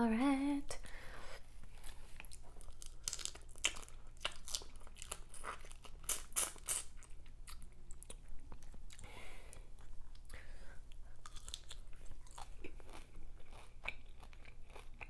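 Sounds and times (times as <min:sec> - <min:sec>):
person chewing food: 0:01.4 - 0:15.0.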